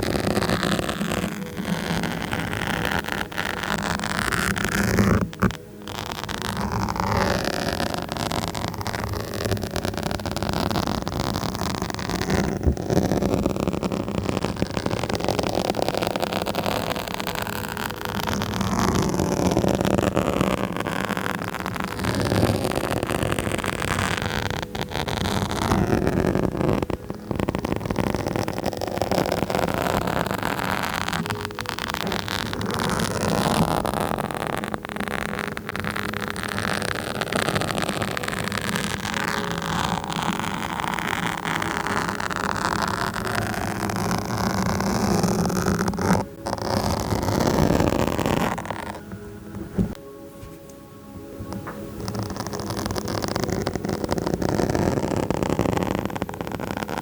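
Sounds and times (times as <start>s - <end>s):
scratching on microphone: 0.0s - 57.0s.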